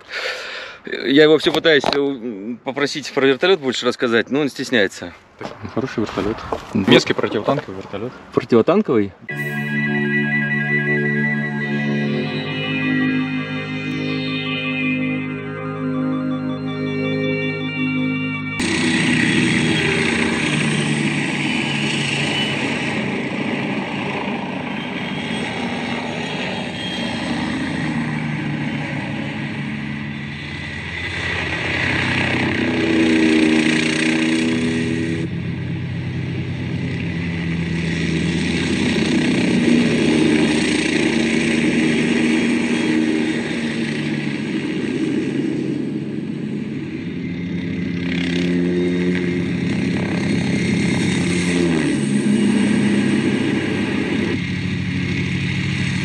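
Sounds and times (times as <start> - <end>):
helicopter flying low: 9.4 - 56.0.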